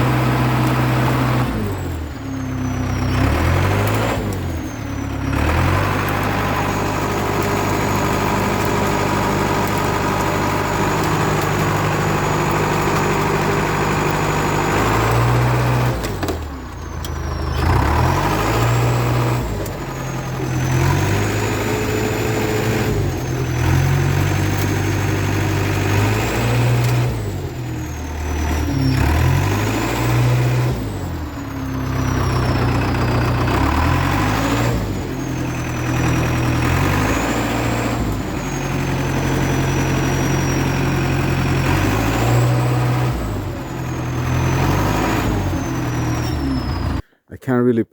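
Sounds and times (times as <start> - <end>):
bulldozer diesel engine running: 0.0 - 47.2.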